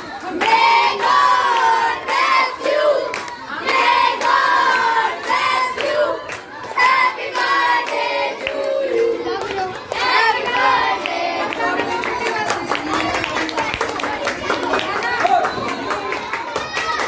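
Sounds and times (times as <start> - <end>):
children singing and shouting: 0.0 - 17.0
hands clapping: 3.1 - 17.0.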